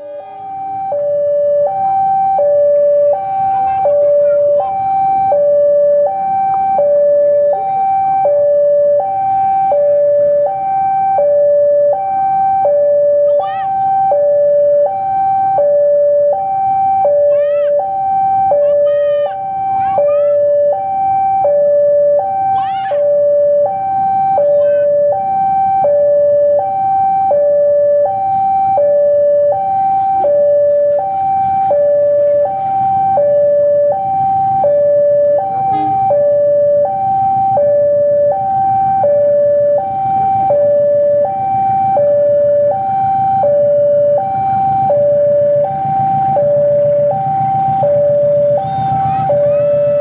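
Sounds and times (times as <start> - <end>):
diesel locomotive engine rumble: 0.0 - 50.0
two-tone crossing alarm: 0.0 - 50.0.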